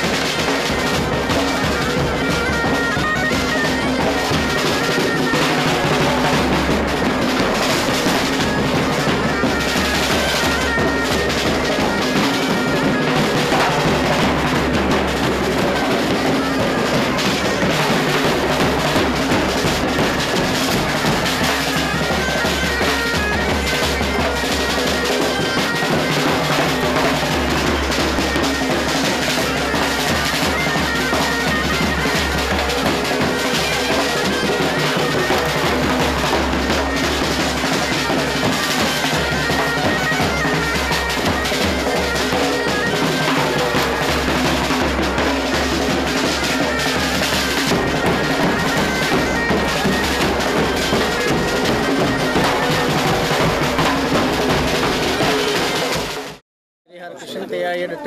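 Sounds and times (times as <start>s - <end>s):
bagpipes over a drone: 0.0s - 56.4s
drums beaten with sticks: 0.0s - 56.4s.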